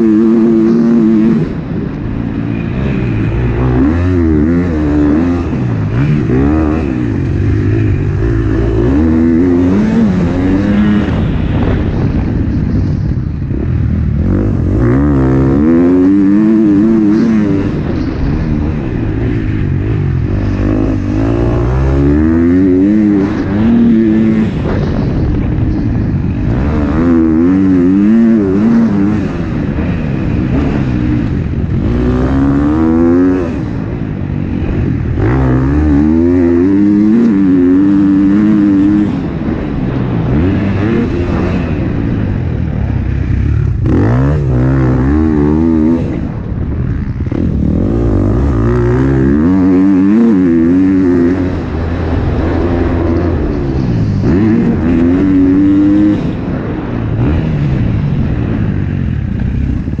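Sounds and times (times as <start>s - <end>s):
motorcycle engine revving hard: 0.0s - 60.0s.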